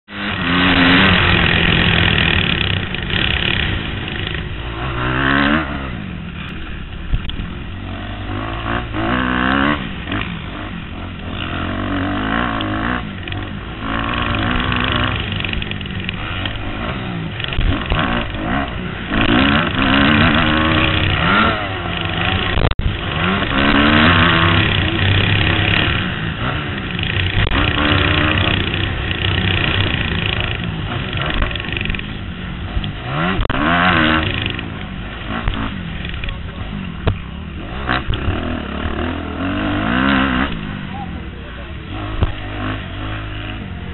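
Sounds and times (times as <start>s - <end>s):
motocross engine revving: 0.1s - 43.9s.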